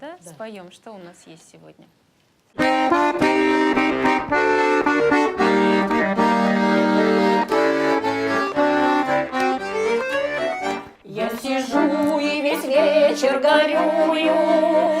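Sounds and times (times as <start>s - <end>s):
button accordion playing folk music: 2.6s - 15.0s.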